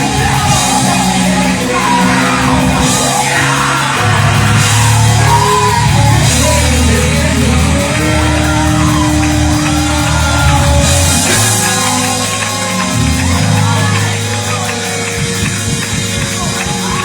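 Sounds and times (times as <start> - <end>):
voices singing and shouting: 0.0 - 17.0.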